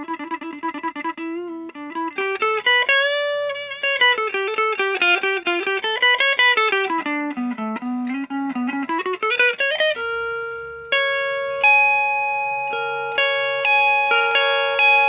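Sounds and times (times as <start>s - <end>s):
clean electric guitar melody: 0.0s - 15.0s.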